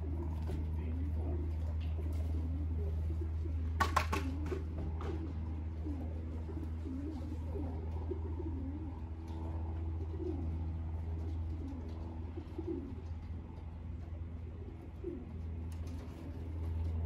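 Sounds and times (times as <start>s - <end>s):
pigeons cooing: 0.0s - 17.0s
steady low hum: 0.0s - 17.0s.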